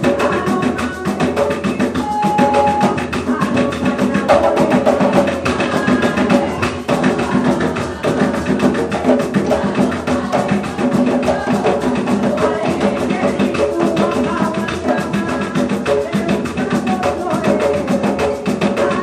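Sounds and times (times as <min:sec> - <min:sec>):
hand drums in a dense rhythm: 0:00.0 - 0:19.0
voices singing: 0:00.0 - 0:19.0.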